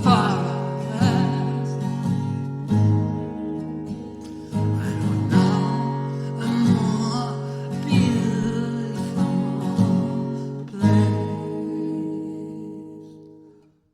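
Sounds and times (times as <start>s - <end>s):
acoustic guitar chords: 0.0s - 13.9s.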